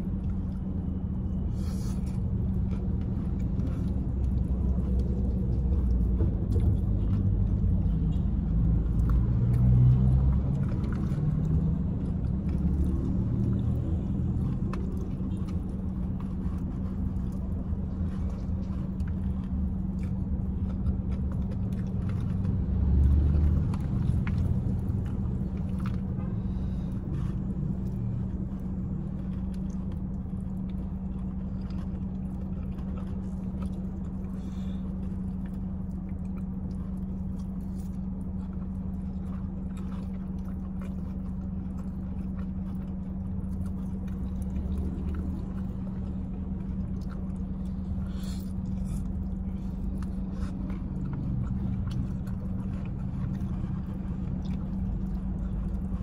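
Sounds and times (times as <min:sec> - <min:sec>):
person chewing: 0:00.0 - 0:56.0.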